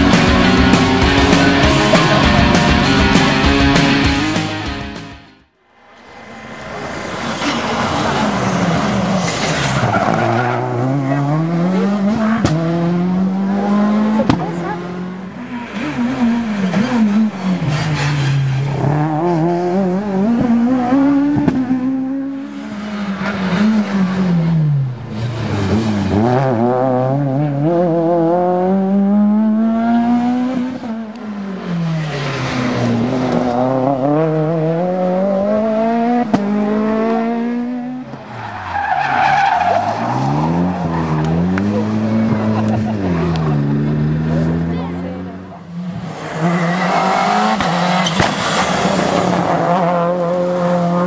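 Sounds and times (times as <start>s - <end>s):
rally car engines revving past: 5.9s - 51.0s.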